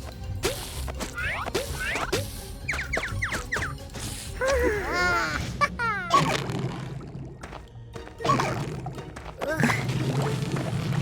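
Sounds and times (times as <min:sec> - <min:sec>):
cartoon background music: 0:00.0 - 0:11.0.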